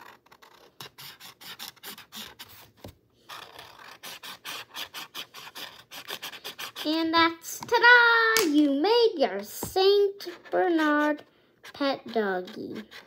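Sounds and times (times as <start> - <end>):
marker scratching on canvas: 0.0 - 7.1, 9.6 - 13.0.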